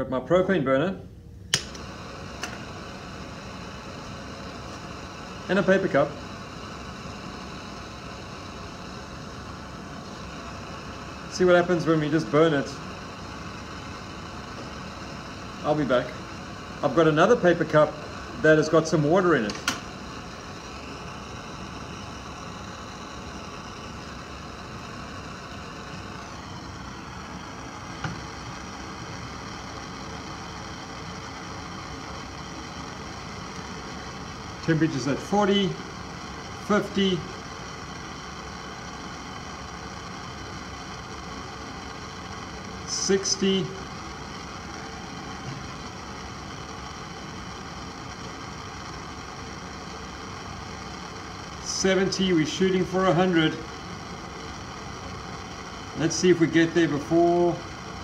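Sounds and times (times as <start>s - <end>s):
propane torch hissing: 1.1s - 58.0s.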